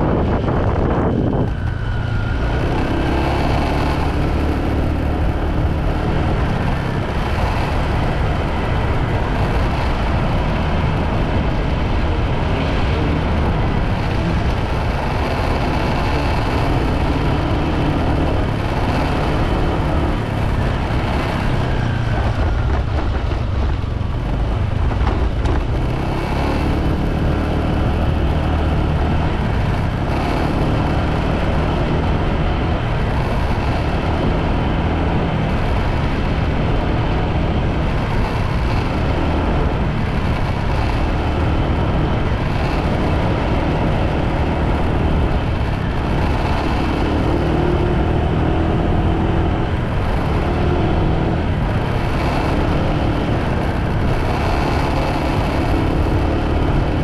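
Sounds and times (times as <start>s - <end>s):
motorbike engine: 0.0s - 57.0s
road noise: 0.0s - 57.0s
wind noise: 0.0s - 57.0s.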